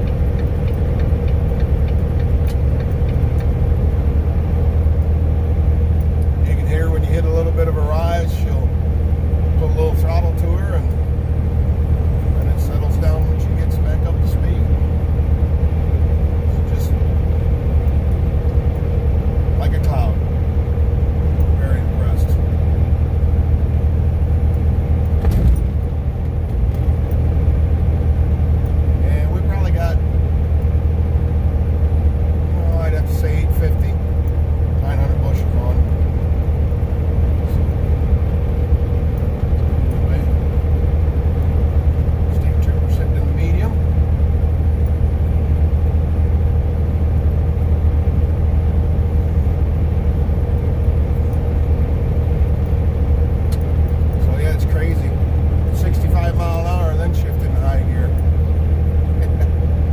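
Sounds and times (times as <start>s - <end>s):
faint steady hum: 0.0s - 59.9s
truck engine and road rumble: 0.0s - 59.9s.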